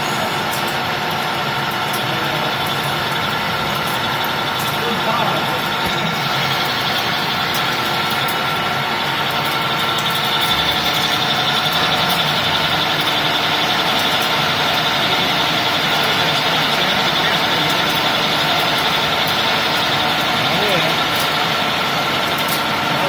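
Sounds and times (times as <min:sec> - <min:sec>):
lathe running with hum and whine: 0:00.0 - 0:23.0.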